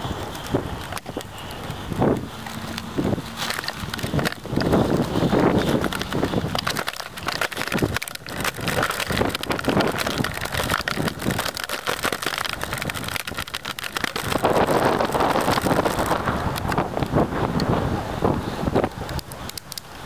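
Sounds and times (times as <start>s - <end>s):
bicycle tyres crackling on grit: 0.0s - 20.0s
wind buffeting microphone: 0.0s - 20.0s.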